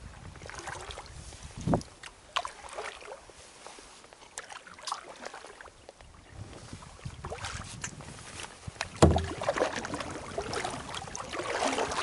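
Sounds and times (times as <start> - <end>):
paddle stroke through water: 0.0 - 12.0
water drips and splashes: 0.1 - 12.0.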